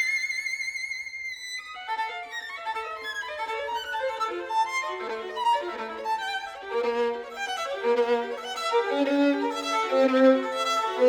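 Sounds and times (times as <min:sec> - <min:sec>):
violin playing fast melody: 0:00.0 - 0:11.0.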